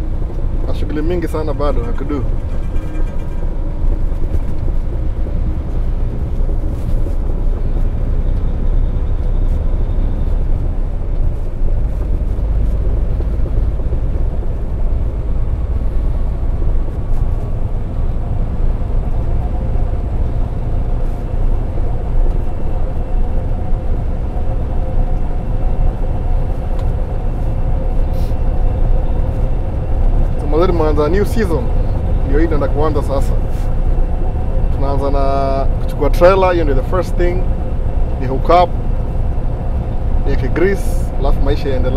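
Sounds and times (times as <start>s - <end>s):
truck engine and road noise: 0.0s - 41.9s.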